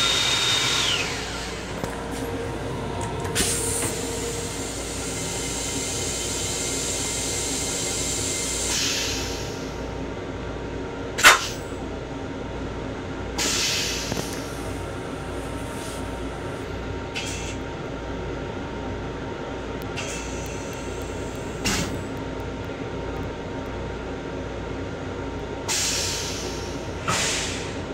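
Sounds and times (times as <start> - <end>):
railcar rumble with low hum: 0.0 - 27.9.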